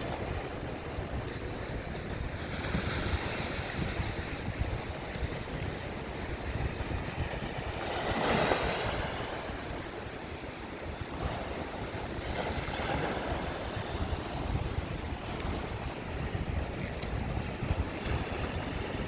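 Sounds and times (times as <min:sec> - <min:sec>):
waves breaking on shore: 0:00.0 - 0:19.0
wind buffeting microphone: 0:00.0 - 0:19.0.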